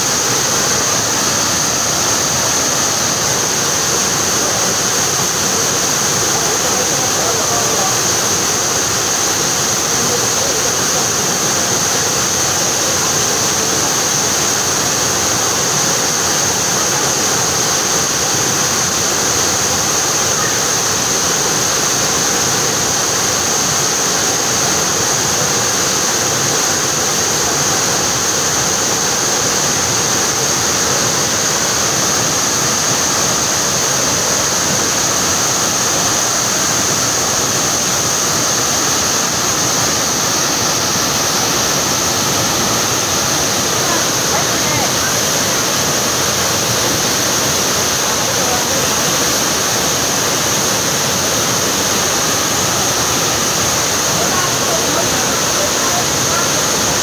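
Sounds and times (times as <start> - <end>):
waterfall rushing into a pool: 0.0 - 57.0.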